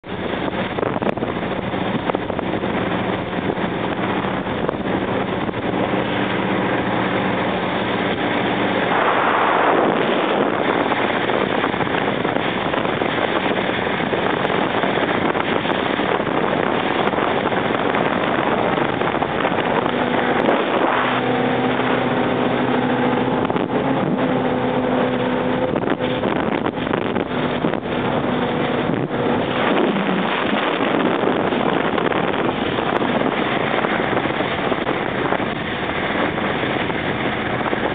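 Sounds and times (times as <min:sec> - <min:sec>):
powerboat engines running: 0:00.0 - 0:37.9
water rushing along hull: 0:00.0 - 0:37.9
wind: 0:00.0 - 0:37.9.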